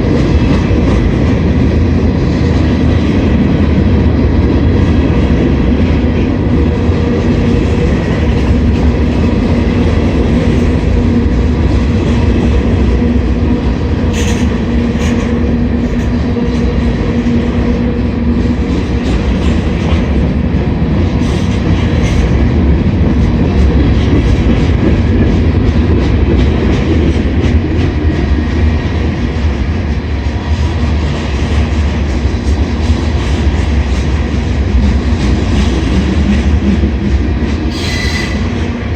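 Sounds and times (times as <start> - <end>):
freight train clattering on rails: 0.0 - 38.9.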